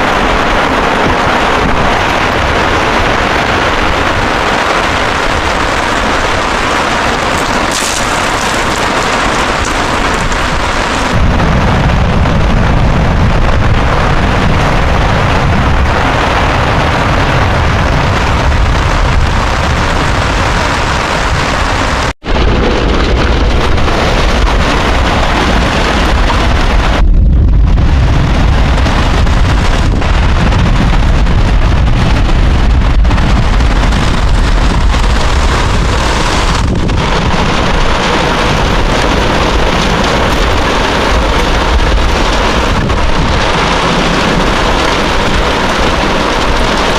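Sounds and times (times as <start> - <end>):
heavy rain downpour: 0.0 - 46.9
wind buffeting microphone: 0.0 - 46.9.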